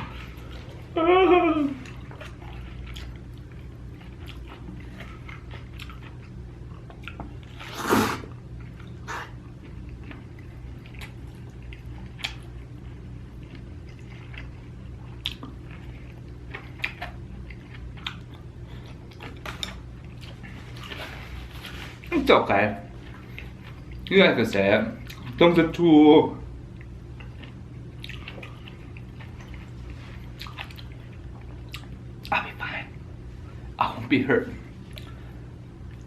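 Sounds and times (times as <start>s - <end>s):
person chewing food: 1.6s - 22.1s, 22.9s - 24.2s, 25.0s - 25.4s, 26.7s - 32.5s, 34.6s - 36.0s.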